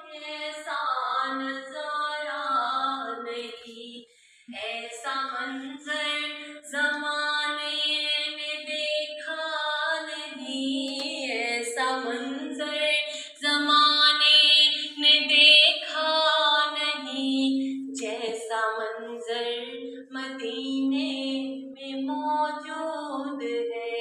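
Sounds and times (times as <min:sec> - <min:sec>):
woman singing slow melody: 0:00.0 - 0:24.0.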